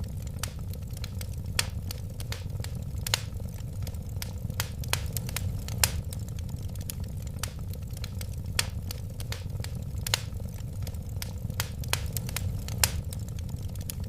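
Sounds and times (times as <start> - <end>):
fire pops and snaps: 0.0 - 14.0
flames rumbling: 0.0 - 14.0.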